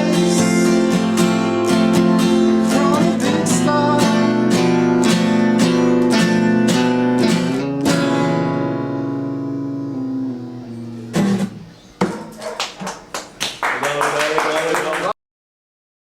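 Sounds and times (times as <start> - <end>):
acoustic guitar strumming: 0.0 - 13.1.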